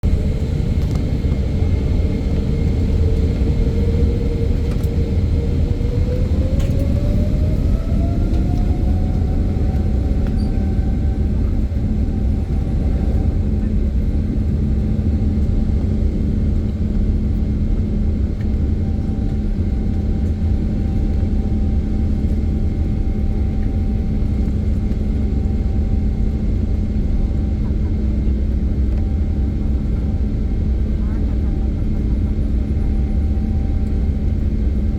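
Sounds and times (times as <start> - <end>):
jet engine whine: 0.0 - 34.9
jet engines rumbling at takeoff: 0.0 - 34.9.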